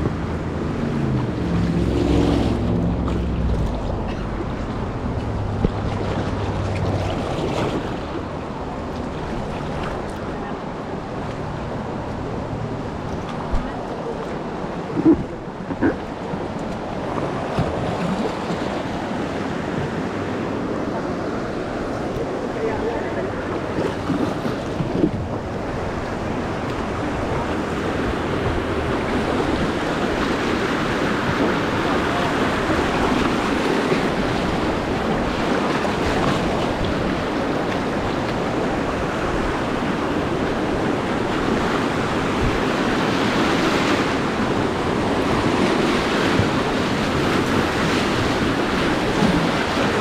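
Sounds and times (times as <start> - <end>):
whitewater river rushing: 0.0 - 50.0
wind buffeting microphone: 0.0 - 50.0.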